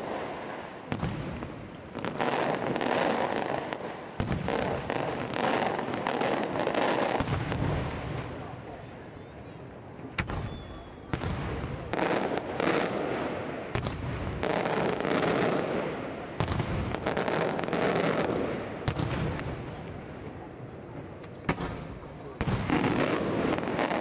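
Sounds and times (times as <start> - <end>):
fireworks bangs: 0.0 - 24.0
fireworks crackle: 0.0 - 24.0.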